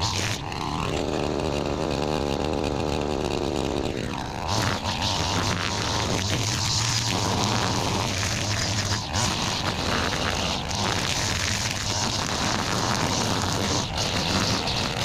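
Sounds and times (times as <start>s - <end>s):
small gas engine whirring: 0.0s - 15.0s.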